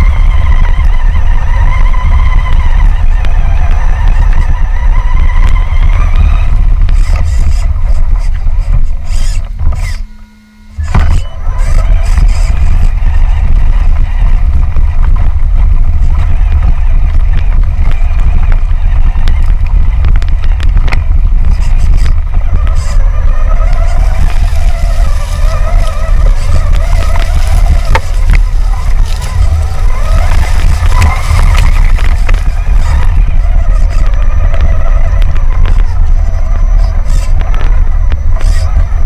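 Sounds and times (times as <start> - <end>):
electric motor and gear whine: 0.0 - 39.0
heavy low rumble: 0.0 - 39.0.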